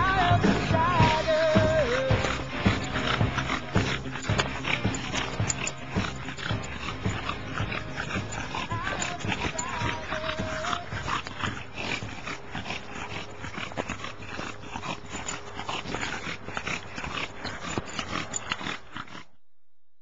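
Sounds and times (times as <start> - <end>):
dog panting hard: 0.0 - 19.4.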